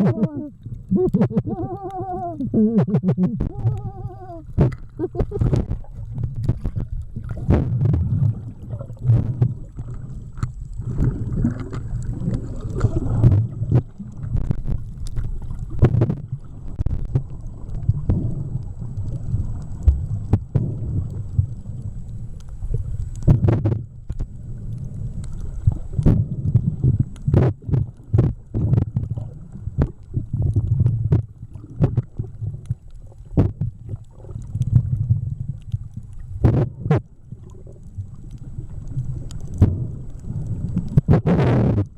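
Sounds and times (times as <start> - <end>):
underwater rumble and sloshing: 0.0 - 41.9.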